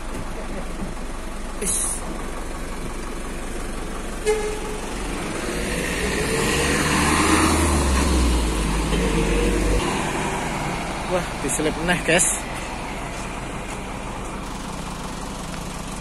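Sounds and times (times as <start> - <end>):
bus engine and road noise: 0.0 - 16.0
heavy vehicle overtaking: 1.8 - 16.0.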